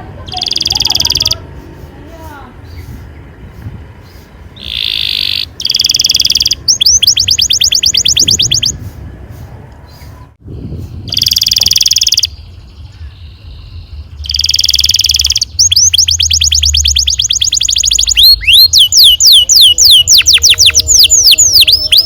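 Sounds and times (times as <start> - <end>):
canary singing: 0.1 - 8.9, 9.8 - 22.0.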